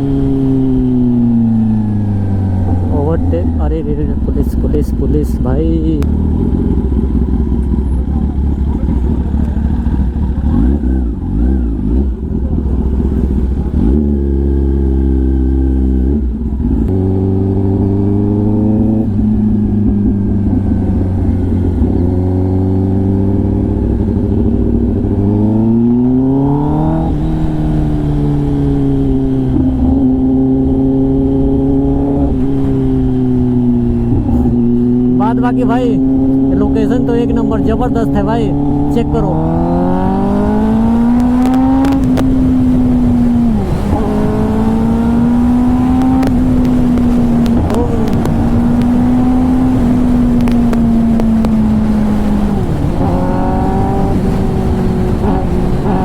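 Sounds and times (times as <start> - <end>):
motorcycle engine revving: 0.0 - 56.0
wind rumble on microphone: 0.0 - 56.0.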